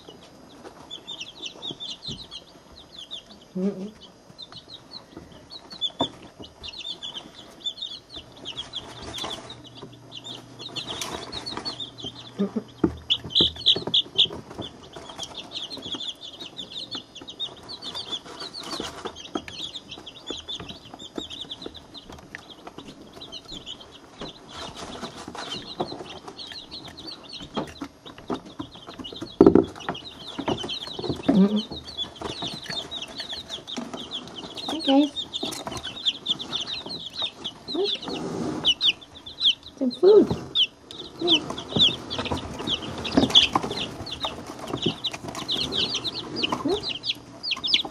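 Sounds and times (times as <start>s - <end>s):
chicks peeping: 0.0s - 47.9s
taps and rustles: 8.1s - 38.8s, 40.2s - 47.9s.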